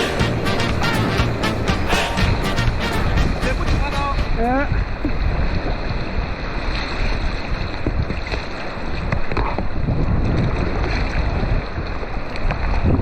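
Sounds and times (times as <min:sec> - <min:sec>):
rough sea rushing: 0:00.0 - 0:13.0
wind on microphone: 0:00.0 - 0:13.0.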